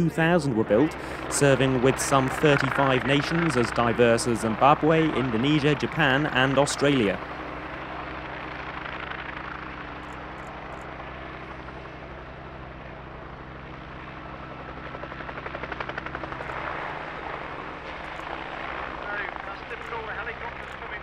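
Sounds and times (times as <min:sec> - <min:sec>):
helicopter engine drone: 0:00.0 - 0:21.0
helicopter rotor blades chopping: 0:00.0 - 0:21.0.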